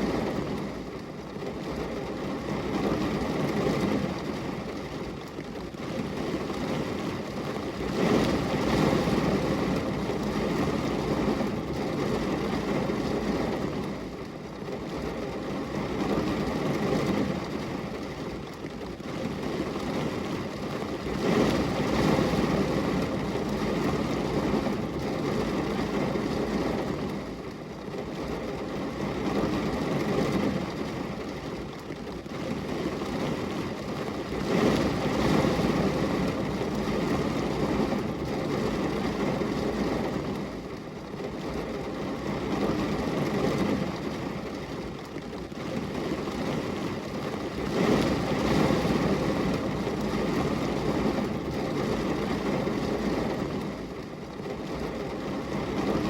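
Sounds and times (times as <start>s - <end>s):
rain on a glass window: 0.0s - 56.0s.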